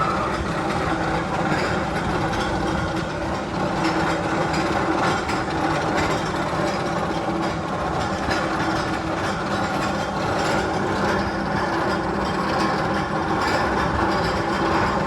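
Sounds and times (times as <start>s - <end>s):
roller coaster rolling on track: 0.0s - 15.0s.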